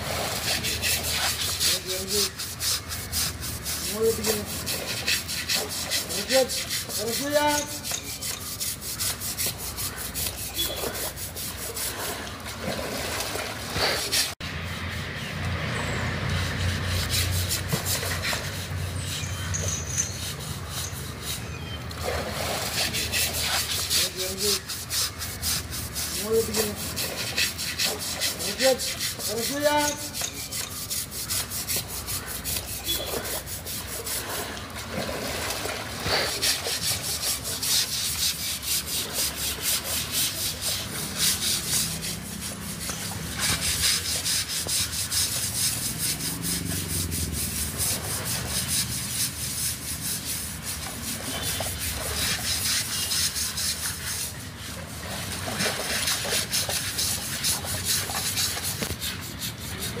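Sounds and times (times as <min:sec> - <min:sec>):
scrubbing strokes on wet hide: 0:00.0 - 1:00.0.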